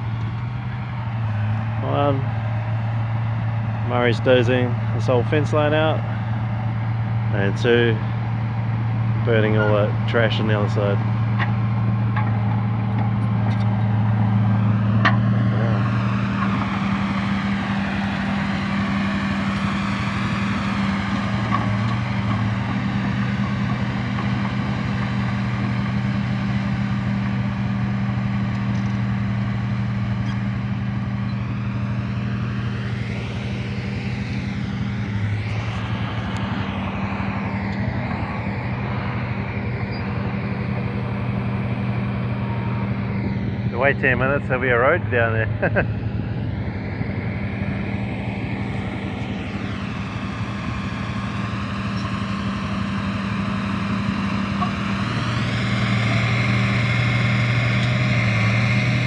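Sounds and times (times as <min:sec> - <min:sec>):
engine droning: 0:00.0 - 0:59.0.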